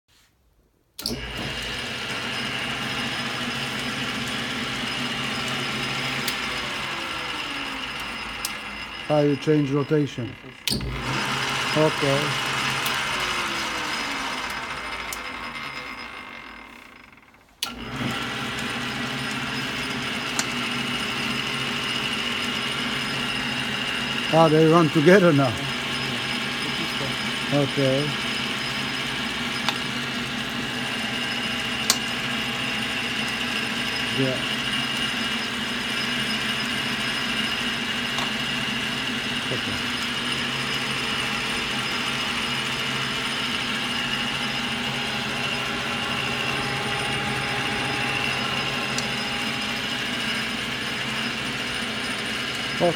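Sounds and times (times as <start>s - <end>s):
lathe motor running: 1.0s - 52.9s.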